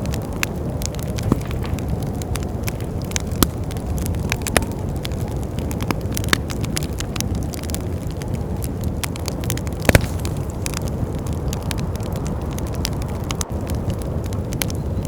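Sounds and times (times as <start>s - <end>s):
wind rushing: 0.0s - 15.0s
wood fire crackling and popping: 0.0s - 15.0s.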